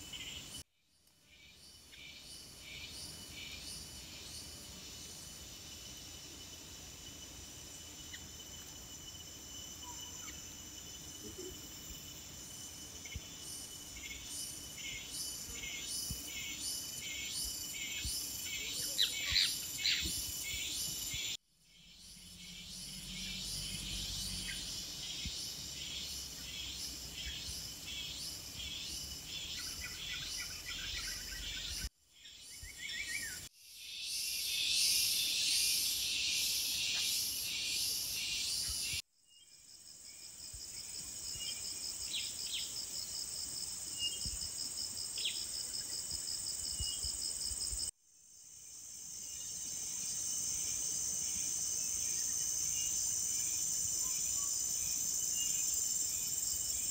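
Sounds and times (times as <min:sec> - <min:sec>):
insects pulsing trills and buzzing: 0:00.0 - 0:56.9.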